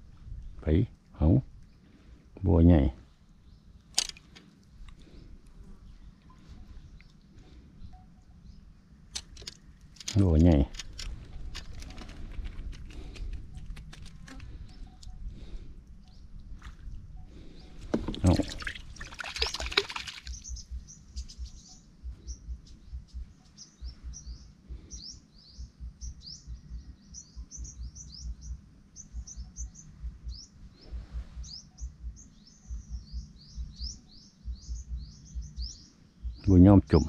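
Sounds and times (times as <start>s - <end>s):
small birds chirping: 0.1s - 37.0s.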